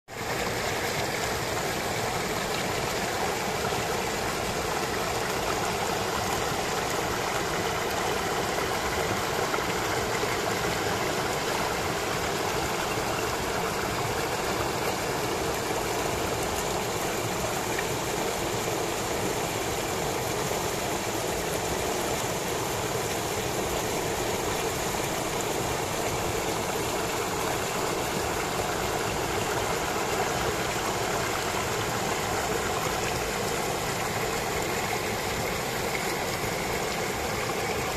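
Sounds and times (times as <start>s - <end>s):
water rushing over rocks: 0.1s - 37.9s.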